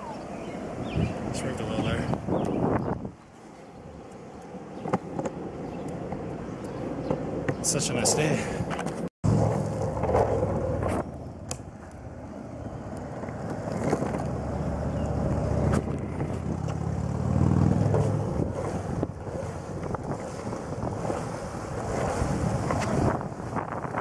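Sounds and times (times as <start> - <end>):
longboard wheels rolling on asphalt: 0.0 - 24.0
wind buffeting microphone: 0.0 - 24.0.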